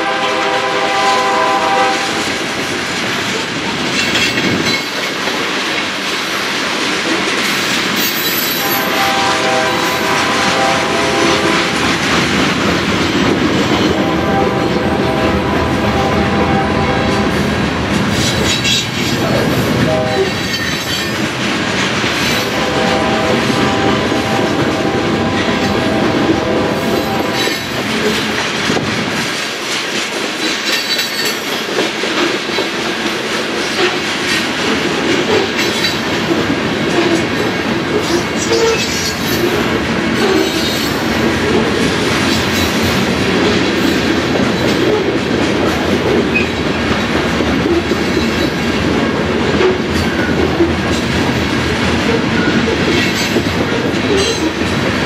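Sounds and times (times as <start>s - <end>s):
freight train wheels clicking: 1.7s - 55.0s.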